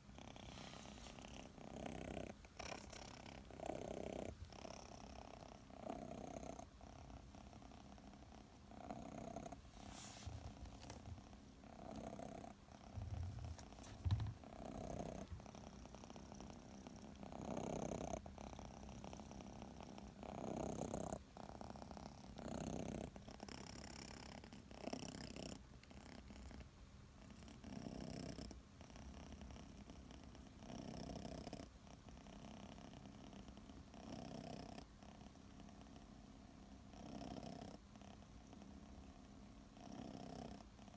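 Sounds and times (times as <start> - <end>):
kitten purring softly: 0.0 - 40.9.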